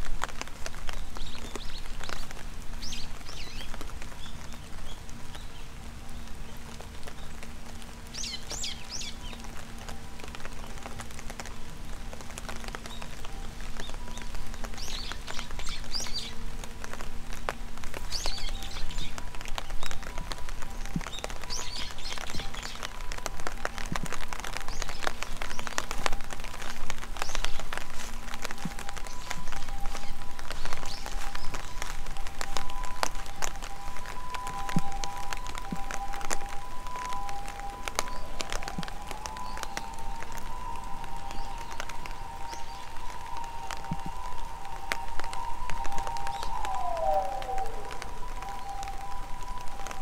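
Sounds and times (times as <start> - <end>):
raindrop ticks close by: 0.0 - 50.0
steady rain: 0.0 - 50.0
small birds chirping: 0.8 - 11.5, 12.2 - 23.3, 23.9 - 49.7.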